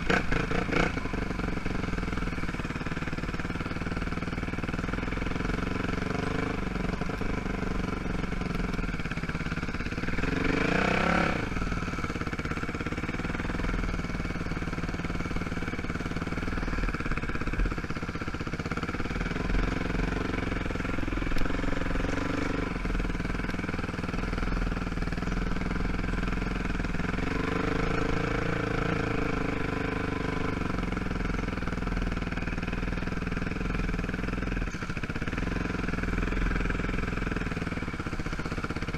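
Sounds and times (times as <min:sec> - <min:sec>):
quad engine running: 0:00.0 - 0:38.9.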